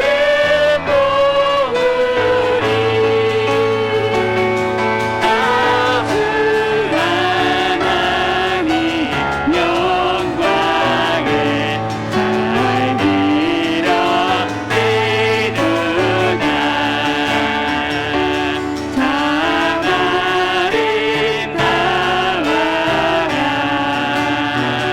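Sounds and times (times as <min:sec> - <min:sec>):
group singing worship song: 0:00.0 - 0:24.9
piano chords: 0:00.0 - 0:24.9.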